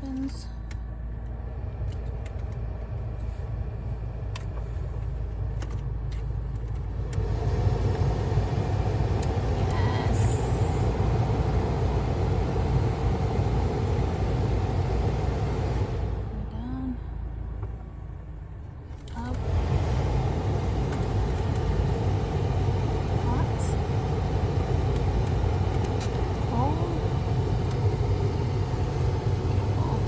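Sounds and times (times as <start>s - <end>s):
car engine idling: 0.0s - 30.0s
air rushing from vents: 1.4s - 16.6s, 18.8s - 30.0s.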